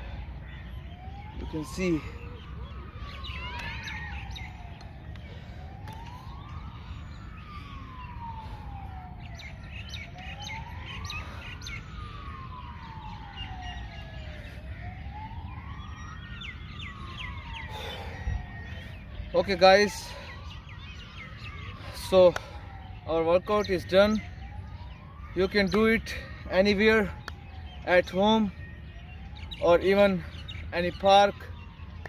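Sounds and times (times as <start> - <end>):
birds chirping: 0.0 - 32.0
siren wailing: 0.0 - 32.0.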